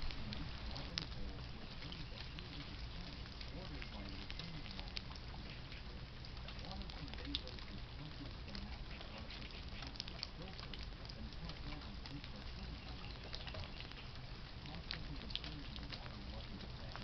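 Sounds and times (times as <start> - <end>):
light rain pattering and dripping: 0.0 - 17.0.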